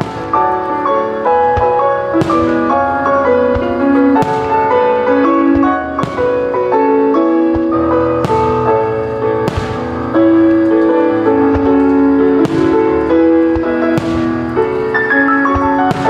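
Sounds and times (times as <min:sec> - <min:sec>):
piano-led music: 0:00.0 - 0:16.0.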